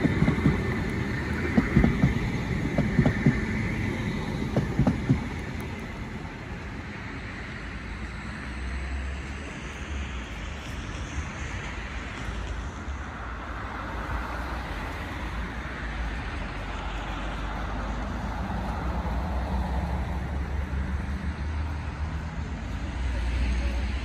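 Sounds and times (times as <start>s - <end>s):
road traffic: 0.0s - 24.0s
tram running on track: 0.0s - 24.0s.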